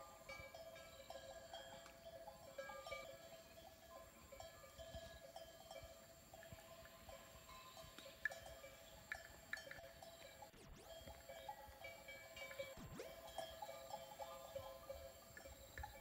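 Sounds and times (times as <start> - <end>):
cattle bells clinking: 0.0 - 16.0.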